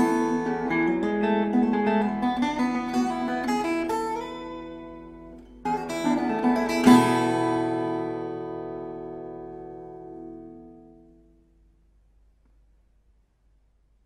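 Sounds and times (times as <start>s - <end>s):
acoustic guitar folk tune: 0.0s - 11.8s.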